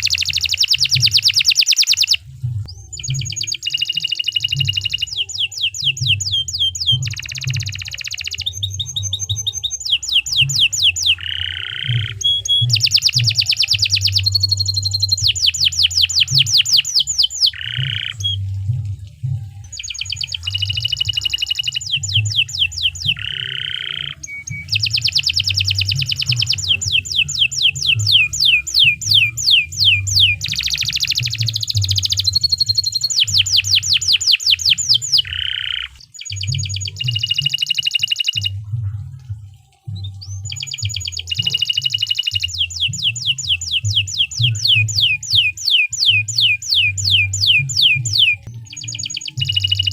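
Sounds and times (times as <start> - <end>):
canary singing trills: 0.0 - 38.8, 39.7 - 49.9.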